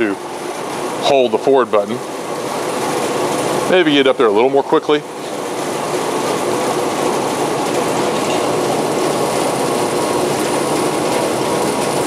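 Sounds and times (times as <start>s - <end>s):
band saw running: 0.0s - 12.0s.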